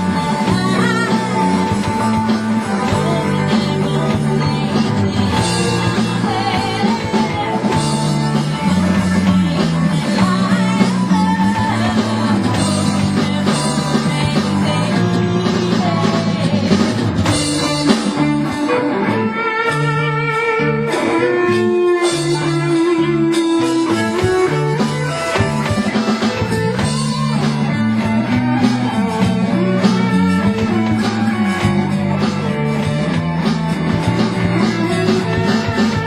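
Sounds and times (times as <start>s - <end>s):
drums: 0.0s - 36.0s
guitar lines: 0.0s - 36.0s
repeating bass line: 0.0s - 36.0s.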